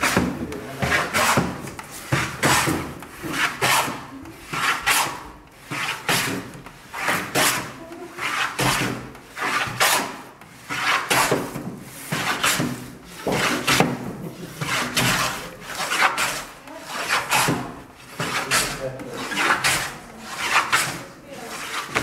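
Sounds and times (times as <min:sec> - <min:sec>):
hand plane shaving wood: 0:00.0 - 0:22.0.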